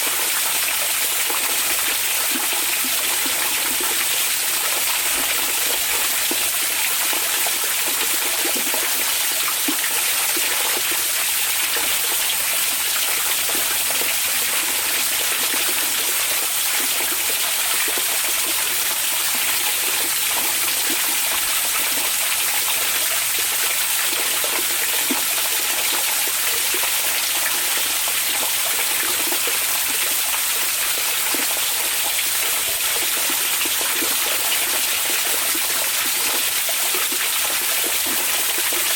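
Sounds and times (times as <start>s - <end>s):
water flowing into bath: 0.0s - 38.9s.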